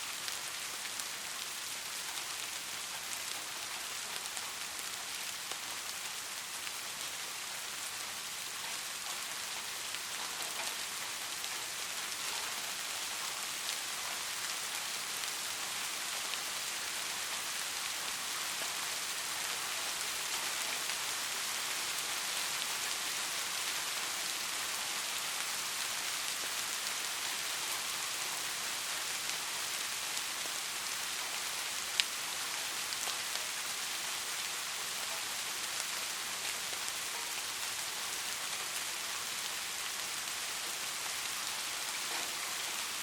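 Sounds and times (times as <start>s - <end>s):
steady rainfall: 0.0s - 43.0s.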